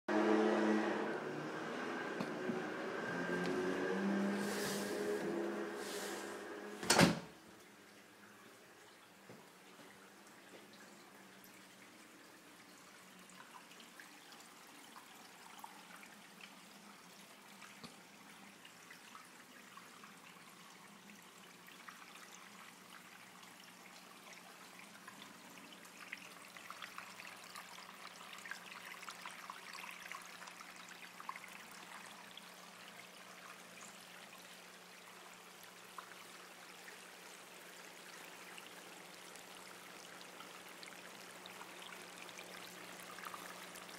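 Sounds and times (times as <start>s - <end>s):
indoor fountain trickling: 0.6s - 43.9s
water dripping: 7.4s - 43.9s.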